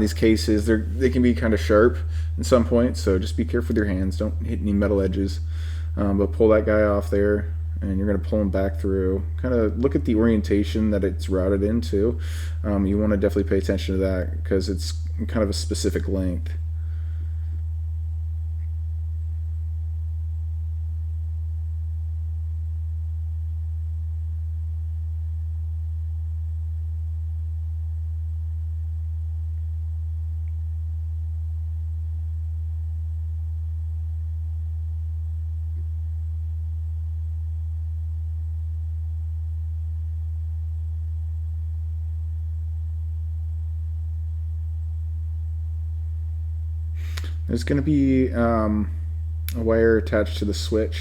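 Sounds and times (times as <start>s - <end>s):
steady low-pitched hum: 0.0s - 51.0s.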